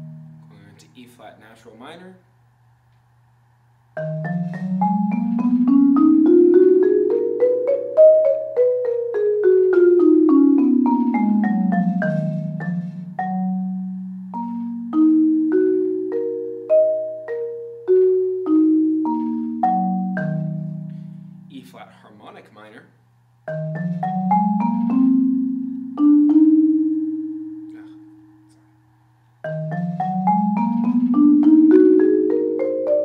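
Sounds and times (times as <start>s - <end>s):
marimba played with mallets: 0.0s - 0.6s, 4.0s - 21.5s, 23.5s - 28.5s, 29.4s - 33.0s.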